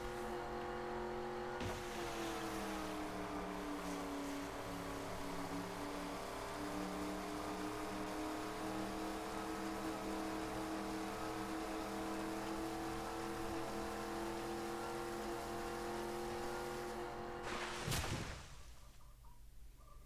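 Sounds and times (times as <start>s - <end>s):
boat motor running: 0.0s - 17.5s.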